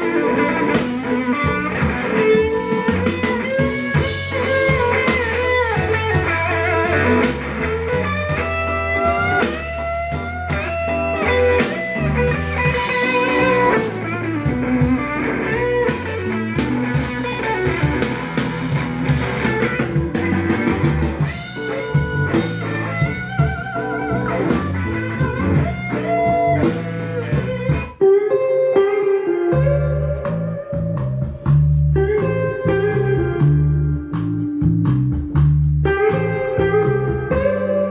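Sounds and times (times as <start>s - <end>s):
steady bass: 0.0s - 28.0s, 29.5s - 37.9s
blues electric guitar: 0.0s - 37.9s.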